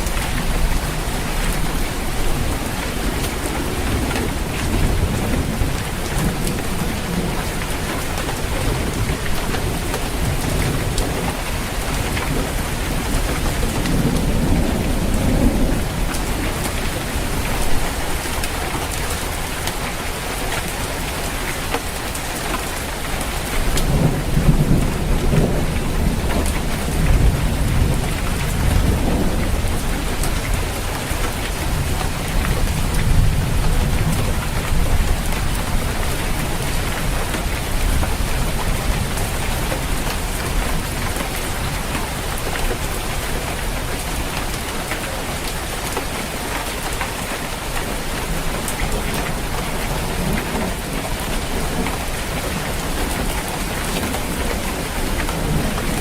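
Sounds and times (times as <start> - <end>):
low thunder rumbling: 0.0 - 20.8, 23.4 - 44.6, 47.6 - 56.0
rain falling on a roof: 0.0 - 56.0.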